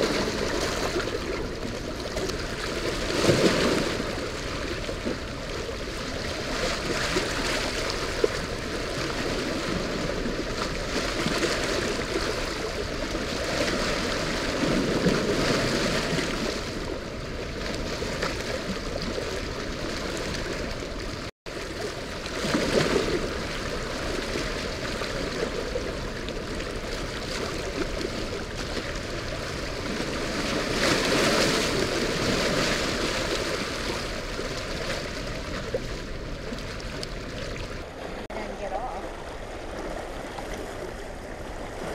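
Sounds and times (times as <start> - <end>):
water rushing and churning: 0.0 - 41.9.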